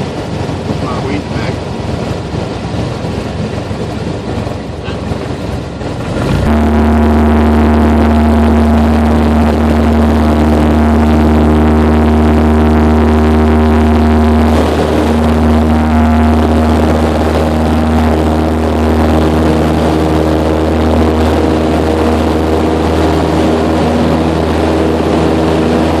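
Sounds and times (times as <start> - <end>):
propeller plane engine drone: 0.0 - 26.0.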